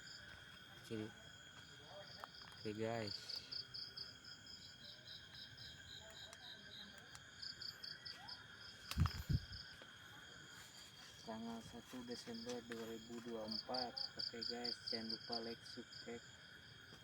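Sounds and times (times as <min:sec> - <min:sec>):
crickets chirping: 0:00.0 - 0:17.0
high-pitched insect drone: 0:00.0 - 0:17.0.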